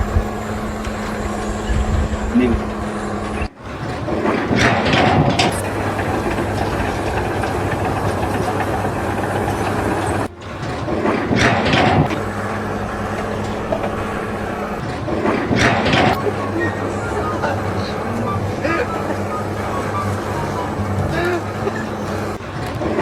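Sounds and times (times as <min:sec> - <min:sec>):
machine engine humming: 0:00.0 - 0:23.0.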